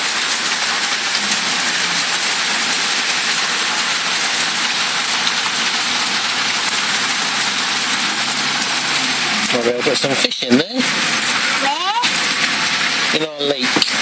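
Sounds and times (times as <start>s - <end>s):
heavy rain on tarmac: 0.0s - 14.0s.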